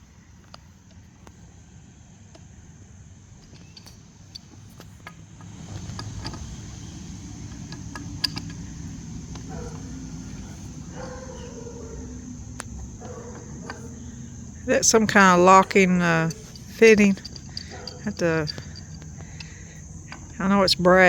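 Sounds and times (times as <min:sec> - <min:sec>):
engine running low: 0:00.0 - 0:21.0
light clicks: 0:03.4 - 0:20.8.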